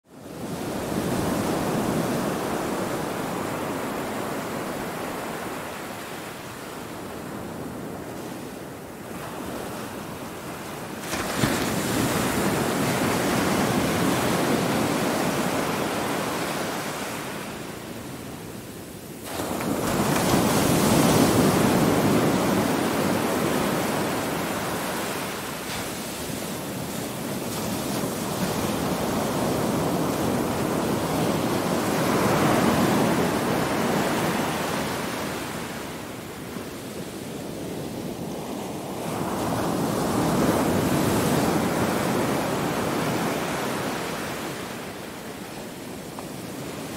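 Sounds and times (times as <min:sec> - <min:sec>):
ocean surf breaking on beach: 0:00.1 - 0:46.9.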